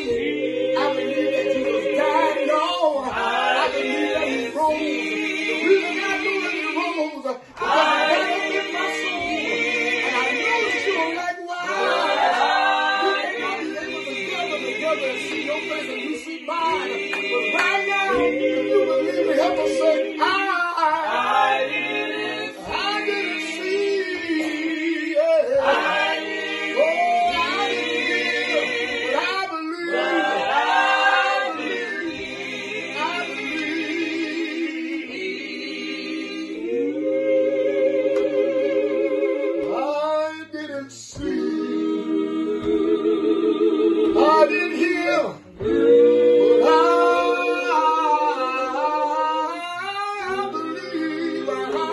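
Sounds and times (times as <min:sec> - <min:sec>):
group singing a hymn: 0:00.0 - 0:51.9.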